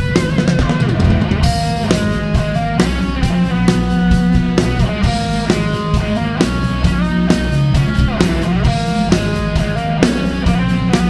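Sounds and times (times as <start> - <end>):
electric guitar bending notes: 0.0 - 11.0
steady drum beat: 0.0 - 11.0.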